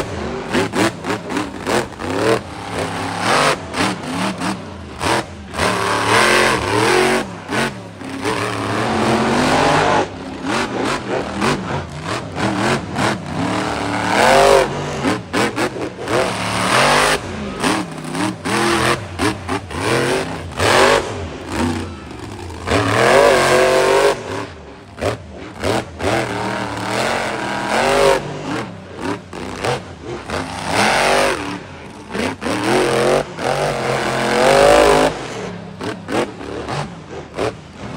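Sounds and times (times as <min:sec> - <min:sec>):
truck engines revving: 0:00.0 - 0:37.9.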